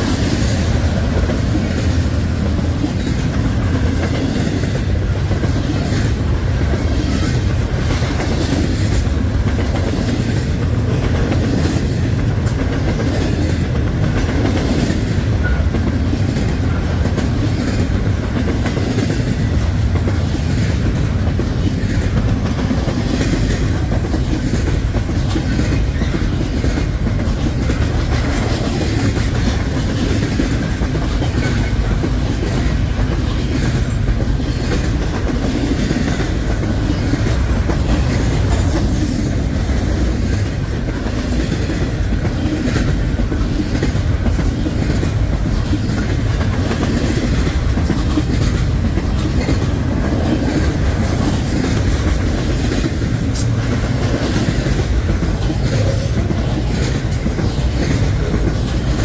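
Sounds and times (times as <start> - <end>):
railroad cars rumbling: 0.0 - 59.0
wheels clicking over rail joints: 0.0 - 59.0.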